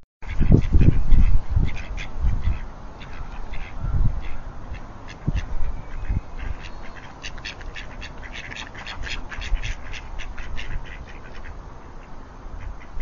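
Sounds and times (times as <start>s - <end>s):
ducks quacking: 0.2s - 13.0s.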